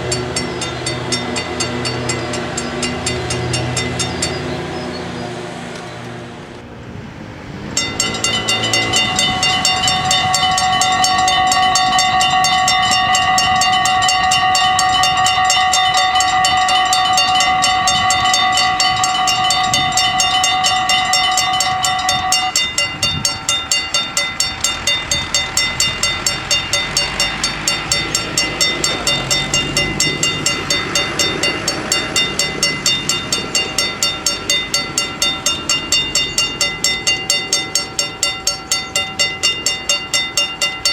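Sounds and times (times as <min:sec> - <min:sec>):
level crossing bells ringing: 0:00.0 - 0:05.0, 0:07.7 - 0:40.9.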